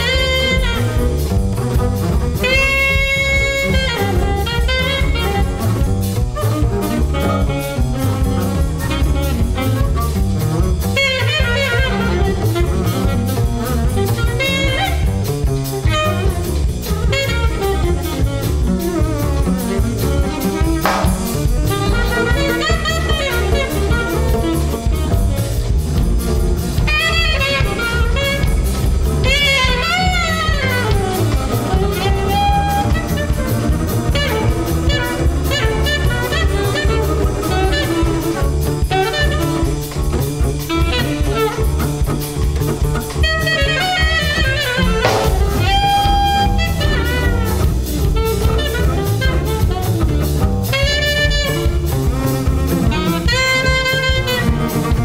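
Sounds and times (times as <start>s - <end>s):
double basses: 0.0s - 55.0s
drum kit: 0.0s - 55.0s
saxophone playing: 0.0s - 55.0s.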